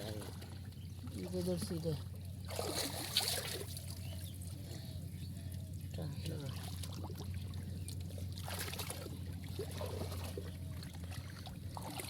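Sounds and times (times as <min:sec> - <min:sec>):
water splashing and trickling: 0:00.0 - 0:12.0
steady low hum: 0:00.2 - 0:12.0.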